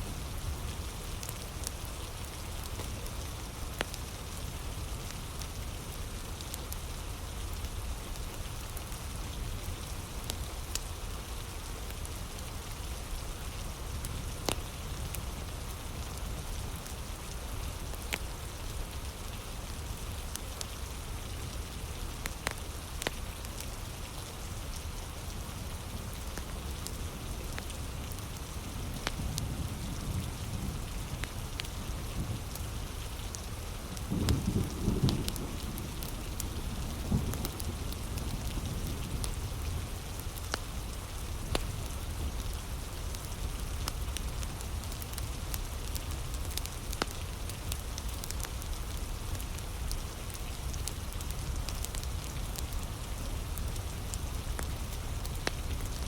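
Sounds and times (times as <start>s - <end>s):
heavy rain: 0.0s - 56.0s
wood fire crackling: 0.2s - 56.0s.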